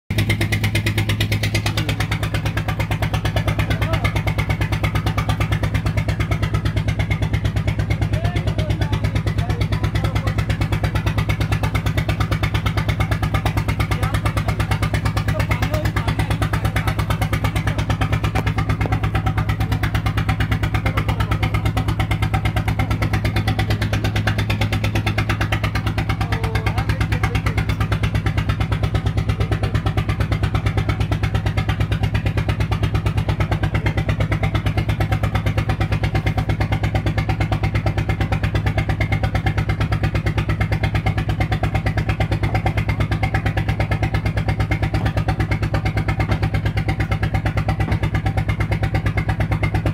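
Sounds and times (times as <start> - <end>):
motorboat engine running: 0.1 - 49.9.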